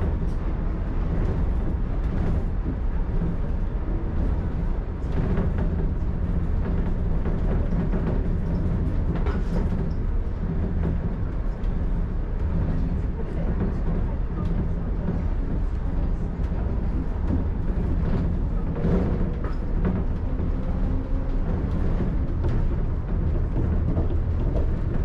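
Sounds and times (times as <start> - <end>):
monorail car running: 0.0 - 25.0.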